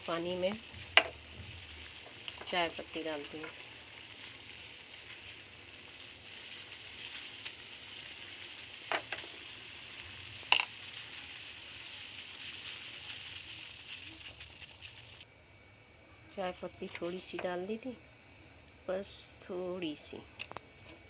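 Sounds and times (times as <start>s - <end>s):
water boiling in a pan: 0.0s - 21.0s.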